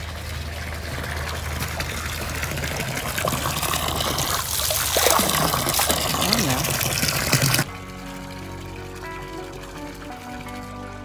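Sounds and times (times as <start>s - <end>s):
water pouring into a tub: 0.0s - 11.0s.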